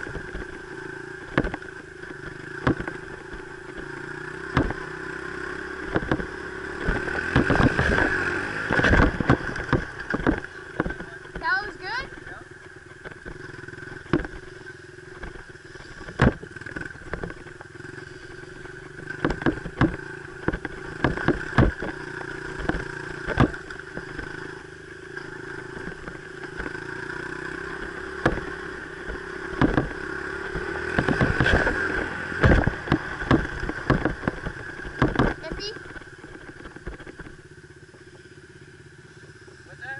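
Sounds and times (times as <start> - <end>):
dirt bike engine running: 0.0 - 39.9
sharp knocks and clatters: 1.2 - 4.9, 5.8 - 14.6, 15.2 - 37.5.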